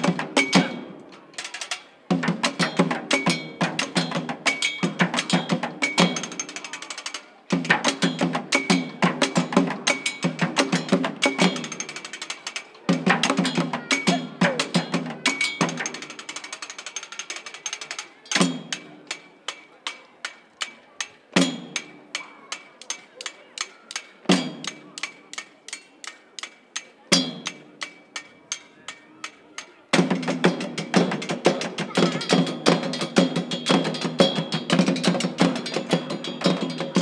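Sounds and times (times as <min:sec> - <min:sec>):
drumsticks tapping drums: 0:00.0 - 0:37.0
percussion group playing: 0:00.0 - 0:37.0.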